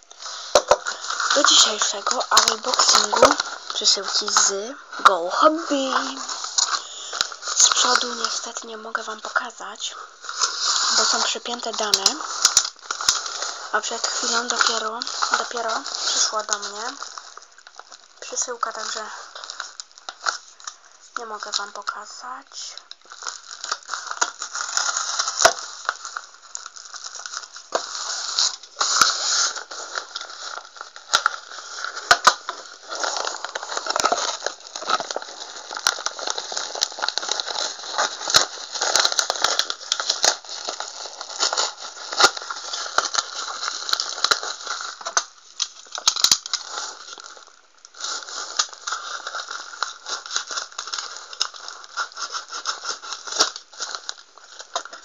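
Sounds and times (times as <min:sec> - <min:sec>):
plastic mailer bag crinkling: 0:00.0 - 0:55.0.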